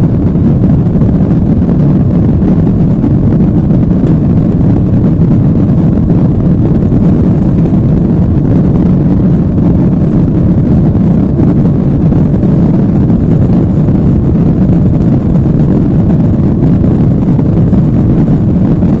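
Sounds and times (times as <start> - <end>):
jet engine low rumble: 0.0 - 19.0.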